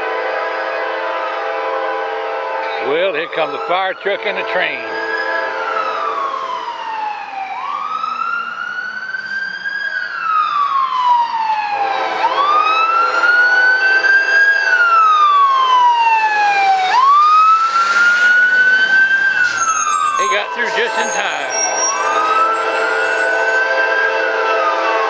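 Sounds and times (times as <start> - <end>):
fire truck siren wailing: 0.0 - 25.0.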